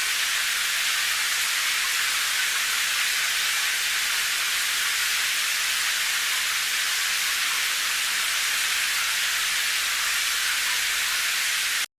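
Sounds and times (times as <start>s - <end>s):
rain hissing: 0.0s - 11.9s.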